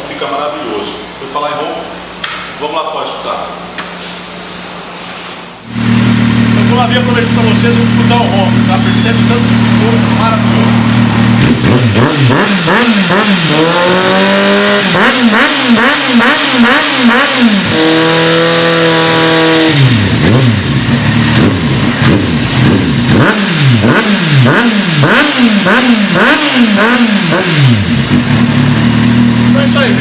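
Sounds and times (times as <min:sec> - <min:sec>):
motorcycle engine revving: 0:05.6 - 0:30.0.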